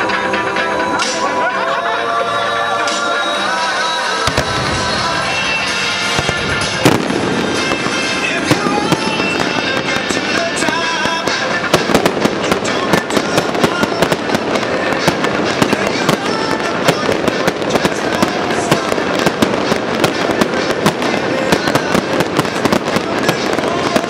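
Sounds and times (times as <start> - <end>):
fireworks popping and banging: 4.0 - 24.0.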